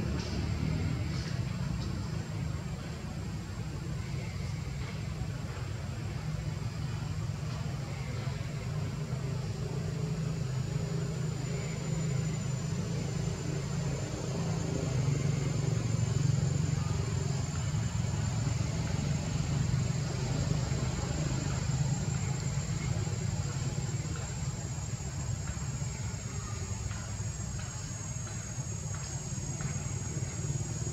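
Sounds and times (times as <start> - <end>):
high-pitched whine: 0.0 - 30.9.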